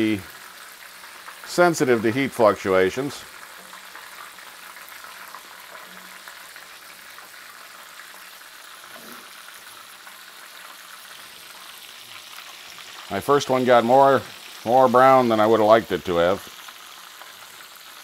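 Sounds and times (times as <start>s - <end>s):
oil sizzling and bubbling in a skillet: 0.0s - 18.0s.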